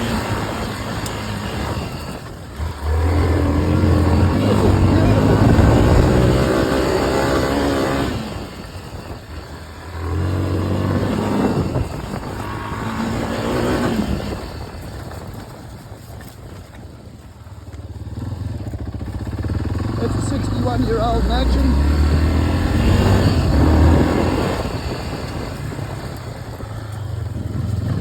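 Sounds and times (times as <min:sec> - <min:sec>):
dirt bike engine revving: 0:00.0 - 0:15.2, 0:17.5 - 0:28.0.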